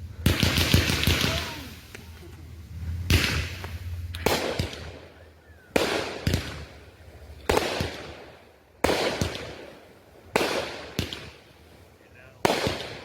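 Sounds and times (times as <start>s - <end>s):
fireworks crackling: 0.0s - 13.0s
fireworks sharp bangs: 0.0s - 13.0s.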